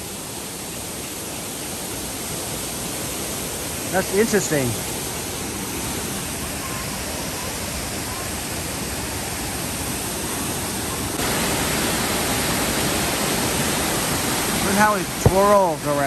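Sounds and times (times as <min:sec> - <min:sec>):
river and waterfall rushing: 0:00.0 - 0:16.0.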